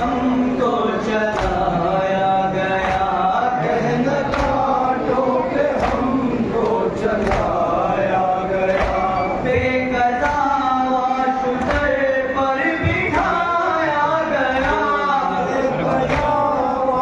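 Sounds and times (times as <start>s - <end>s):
men chanting in unison: 0.0s - 17.0s
voice leading at a microphone: 0.0s - 17.0s.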